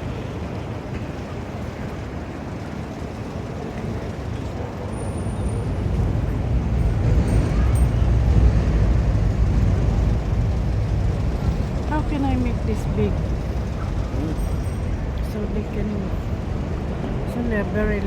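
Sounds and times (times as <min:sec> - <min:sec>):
passing motor vehicle rumble: 0:00.0 - 0:18.0.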